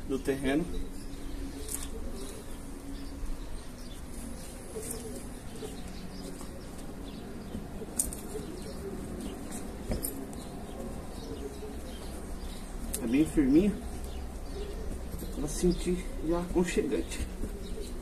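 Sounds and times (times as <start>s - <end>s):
pigeons cooing softly: 0.0s - 18.0s.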